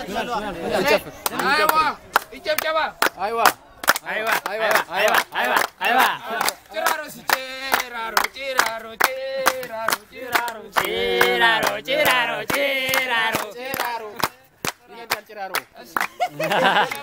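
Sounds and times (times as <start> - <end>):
people singing and chanting: 0.0 - 17.0
people clapping in unison: 1.2 - 17.0.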